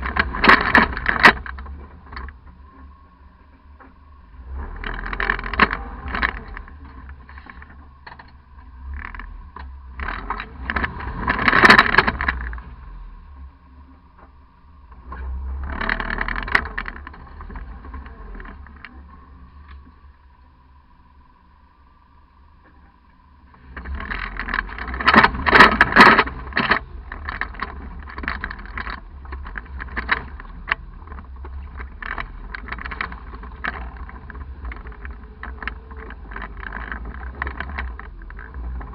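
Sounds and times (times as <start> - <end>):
loud rough noise: 0.0 - 13.4, 14.9 - 19.9, 23.5 - 38.9
faint steady whine: 0.0 - 38.9
truck engine rumble: 0.0 - 38.9.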